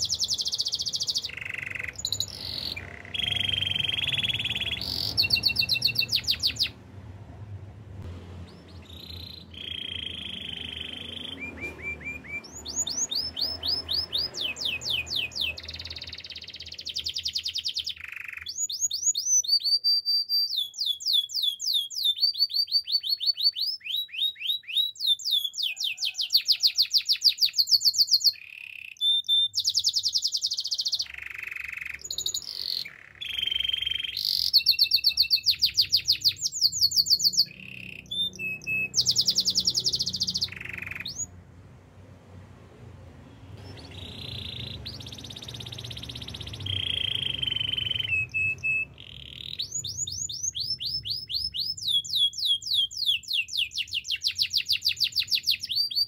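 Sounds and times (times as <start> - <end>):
canary singing trills: 0.0 - 6.9, 8.4 - 41.4, 43.5 - 56.0.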